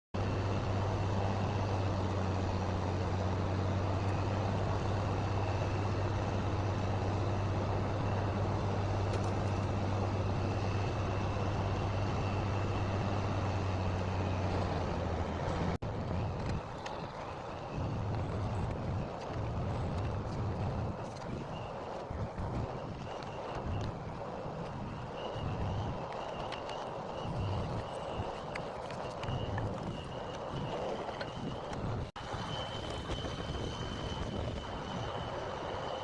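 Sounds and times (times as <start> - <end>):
engine droning: 0.2 - 36.0.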